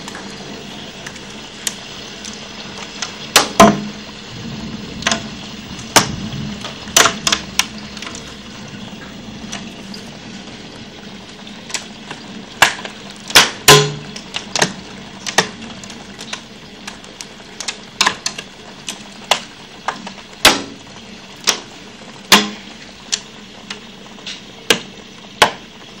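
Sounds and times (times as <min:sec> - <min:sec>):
hail and rain falling: 0:00.0 - 0:26.0
hailstones striking hard surfaces: 0:01.0 - 0:25.6.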